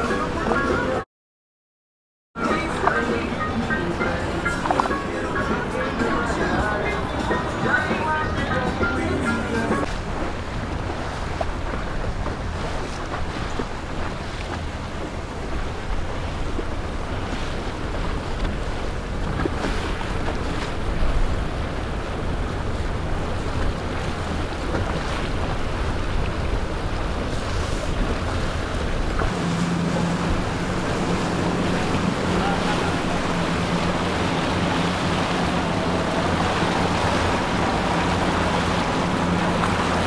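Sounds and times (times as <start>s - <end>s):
boat engines running: 0.0s - 1.0s, 2.4s - 40.0s.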